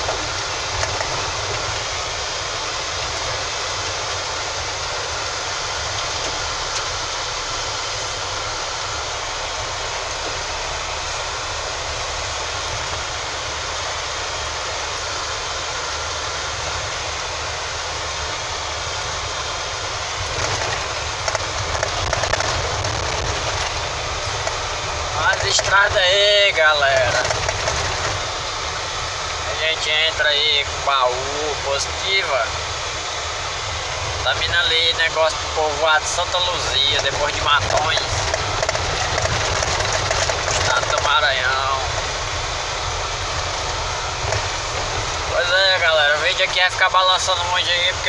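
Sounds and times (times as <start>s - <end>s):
vehicle engine and road drone: 0.0s - 48.0s.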